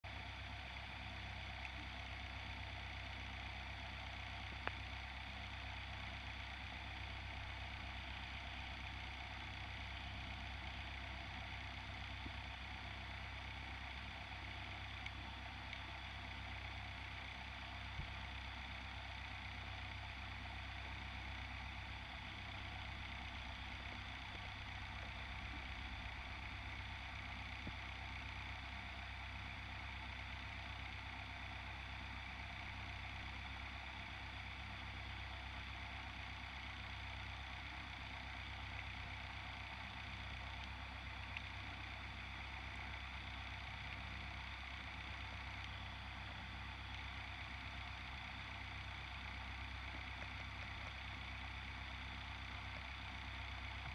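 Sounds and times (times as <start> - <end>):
low underwater hum: 0.0 - 53.9.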